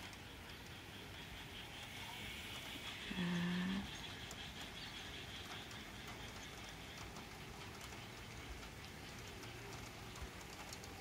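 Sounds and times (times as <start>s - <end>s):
rain hiss: 0.0s - 11.0s
raindrop ticks: 0.0s - 11.0s.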